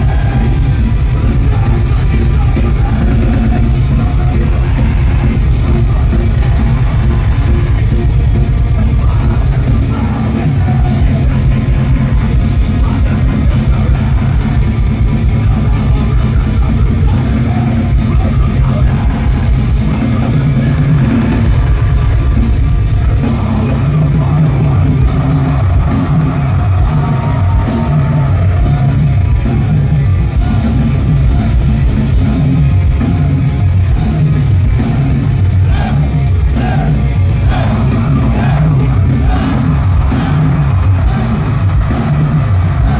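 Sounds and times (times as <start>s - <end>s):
distorted electric guitars: 0.0s - 42.9s
drums: 0.0s - 42.9s
heavy metal band playing live: 0.0s - 42.9s
vocalist on microphone: 0.0s - 42.9s.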